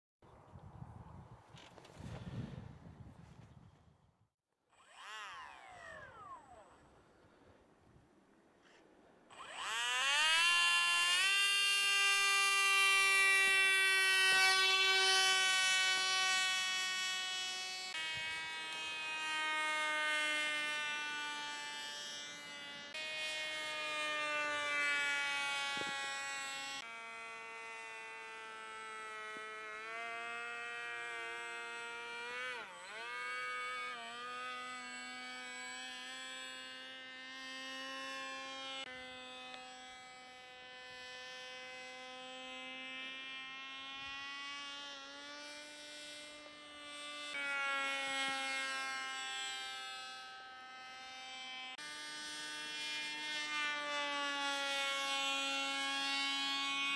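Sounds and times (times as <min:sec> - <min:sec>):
model jet engine buzzing: 0:04.7 - 0:07.6, 0:09.3 - 0:56.9.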